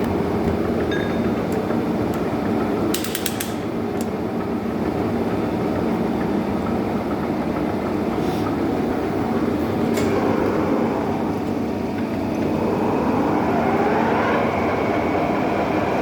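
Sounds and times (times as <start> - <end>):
lathe running with mechanical hum: 0.0 - 16.0.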